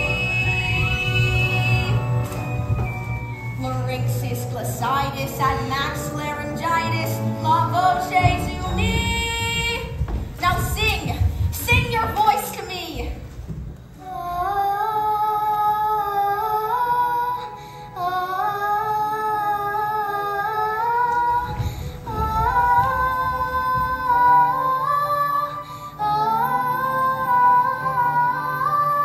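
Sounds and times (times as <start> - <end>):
girl singing wordless melody: 0.0 - 13.3, 14.0 - 29.0.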